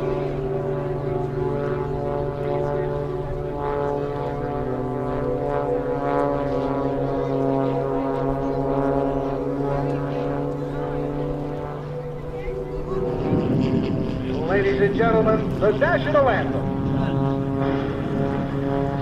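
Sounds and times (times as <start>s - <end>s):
propeller airplane engine droning: 0.0s - 19.0s.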